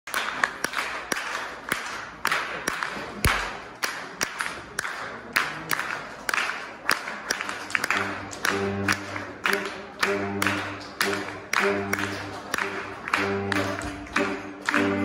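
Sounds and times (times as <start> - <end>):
person clapping a steady beat: 0.1 - 15.0.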